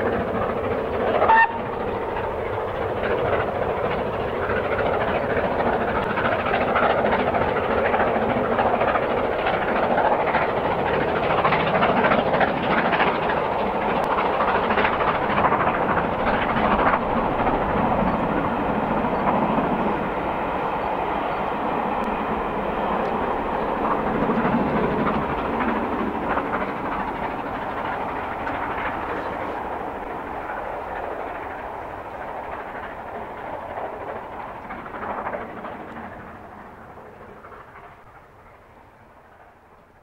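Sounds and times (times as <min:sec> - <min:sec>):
steam locomotive working hard: 0:00.0 - 0:40.0.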